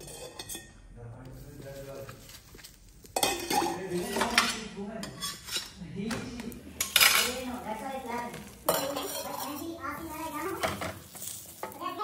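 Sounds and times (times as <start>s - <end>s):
steel utensils clinking and scraping: 0.0s - 0.8s, 1.5s - 5.8s, 6.7s - 12.0s.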